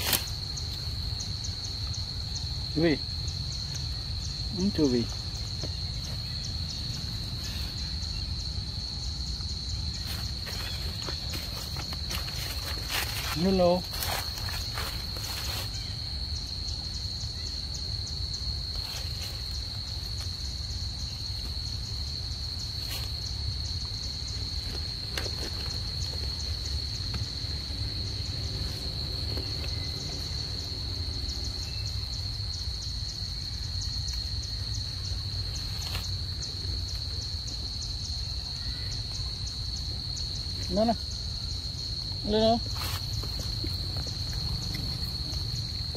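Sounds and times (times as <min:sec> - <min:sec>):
insects shrill tone: 0:00.0 - 0:45.9.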